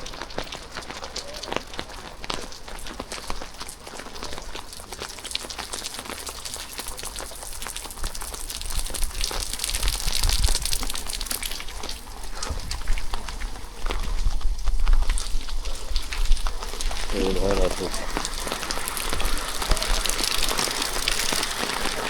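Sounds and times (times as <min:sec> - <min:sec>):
rain crackling patter: 0:00.0 - 0:22.0.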